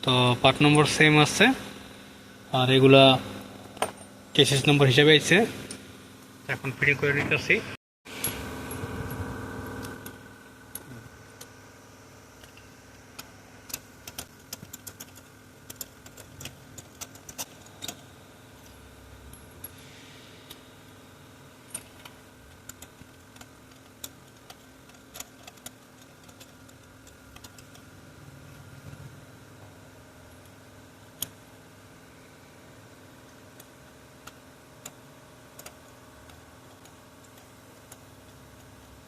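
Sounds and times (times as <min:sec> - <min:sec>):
background hum: 0:00.0 - 0:39.0.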